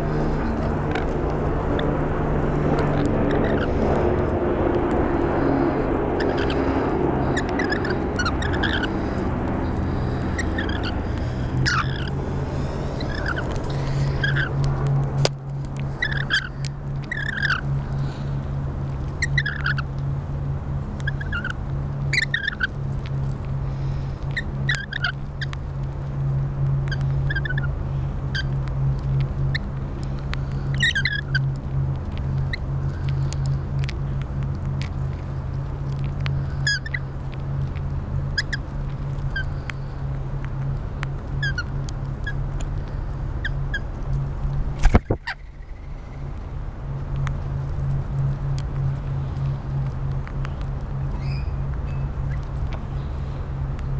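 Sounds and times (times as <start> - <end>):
birds giving high chirps: 0.0 - 20.2, 20.8 - 25.9, 26.7 - 46.6, 47.2 - 53.9
steady low hum: 0.0 - 53.9.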